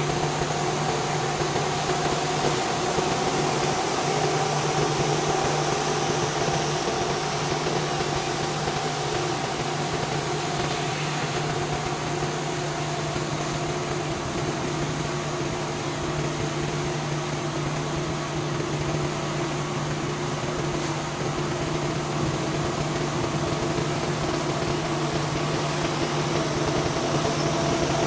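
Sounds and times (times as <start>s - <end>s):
pressure washer humming: 0.0s - 28.0s.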